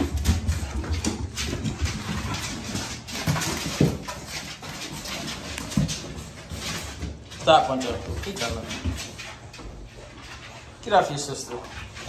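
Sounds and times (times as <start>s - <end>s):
dogs scuffling on tiled floor: 0.0s - 12.0s.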